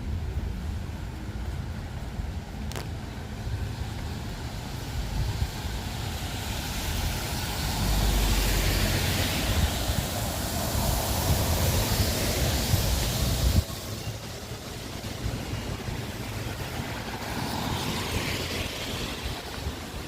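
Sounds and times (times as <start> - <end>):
wind rumbling on microphone: 0.0 - 20.0
tyre hiss on wet road: 0.1 - 20.0.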